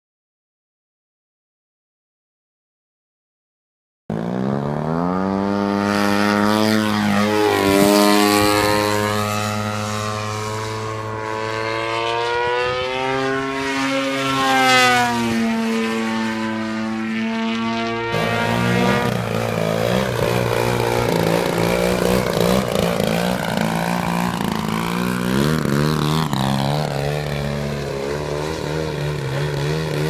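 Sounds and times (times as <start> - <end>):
model plane engine droning: 4.1 - 30.0.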